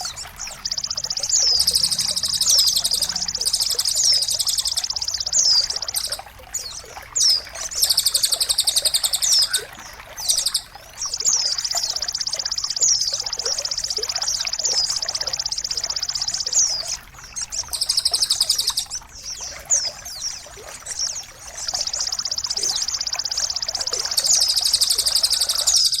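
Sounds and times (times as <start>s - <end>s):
songbird trilling: 0.0s - 26.0s
trickle of running water: 0.0s - 26.0s.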